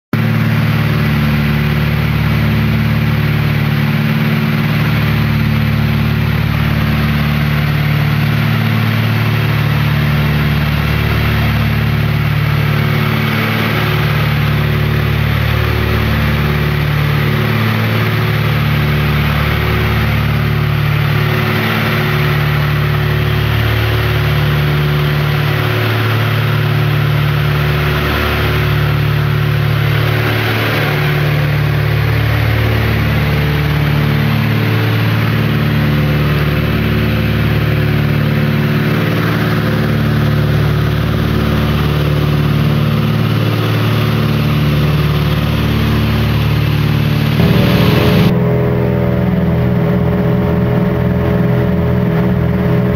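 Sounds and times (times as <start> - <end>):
steady rushing noise: 0.2 - 52.9
twin propeller engines droning: 0.2 - 52.9.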